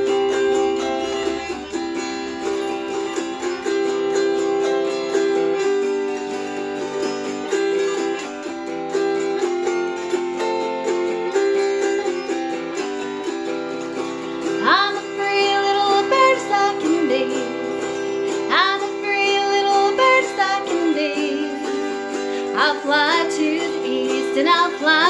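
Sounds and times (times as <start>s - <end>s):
autoharp strummed: 0.0s - 25.0s.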